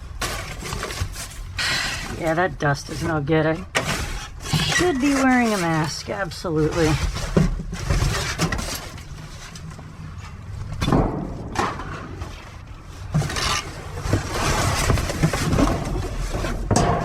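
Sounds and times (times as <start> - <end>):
rummaging through debris: 0.0 - 17.0.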